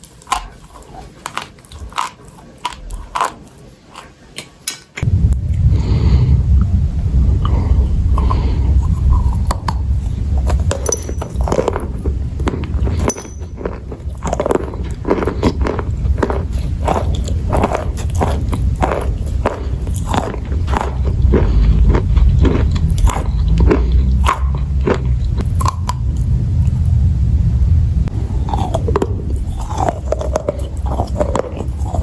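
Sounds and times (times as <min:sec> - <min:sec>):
crunchy chewing: 0:00.0 - 0:04.6, 0:08.1 - 0:26.9, 0:28.1 - 0:32.0
heavy low rumble: 0:05.0 - 0:32.0.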